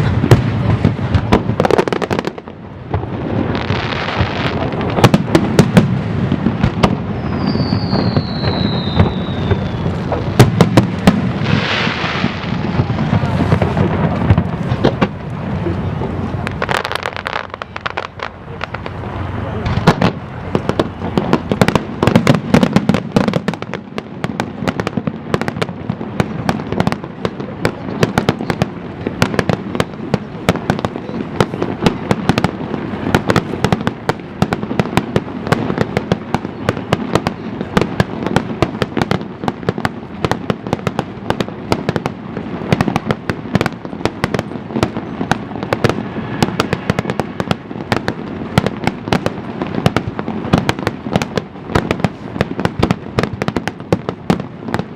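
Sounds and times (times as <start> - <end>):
fireworks bangs: 0.0 - 54.9
steady low rumble: 9.2 - 53.2.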